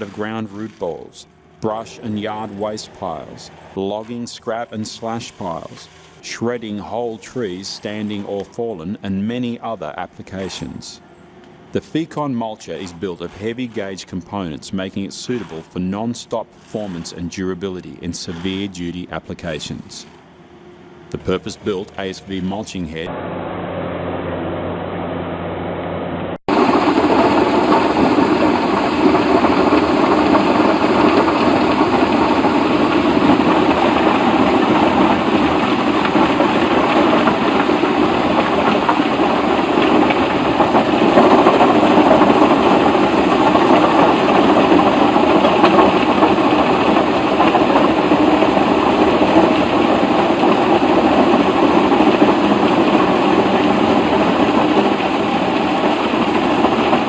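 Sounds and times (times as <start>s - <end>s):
heavy machine running: 0.0s - 57.0s.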